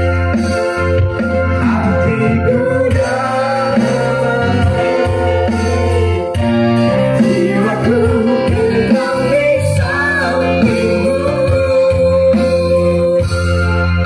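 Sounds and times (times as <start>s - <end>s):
keyboard and electric guitar band: 0.0s - 14.0s
man and woman singing duet: 1.6s - 13.4s.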